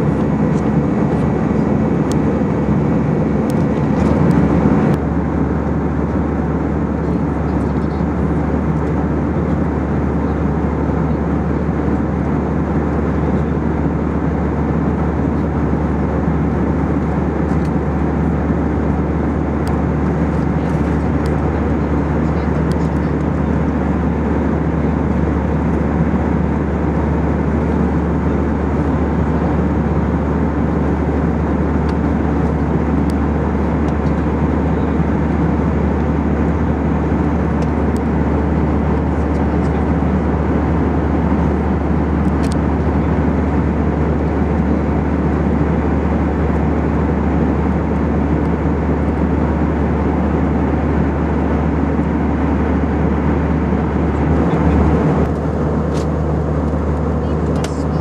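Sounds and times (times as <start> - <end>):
airflow over fuselage: 0.0 - 58.0
jet engine cabin drone: 0.0 - 58.0
steady low hum: 0.0 - 58.0.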